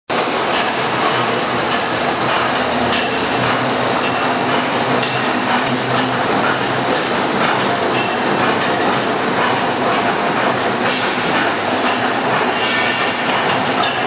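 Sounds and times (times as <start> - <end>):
rope-making machines running: 0.1 - 14.0.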